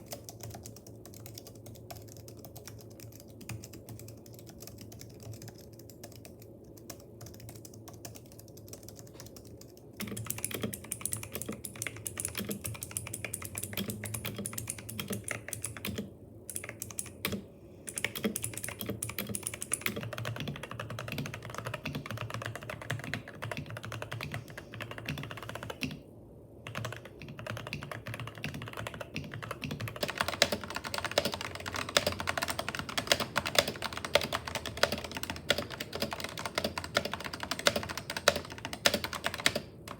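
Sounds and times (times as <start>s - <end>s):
typing on keyboard: 0.0s - 26.0s, 26.6s - 39.9s.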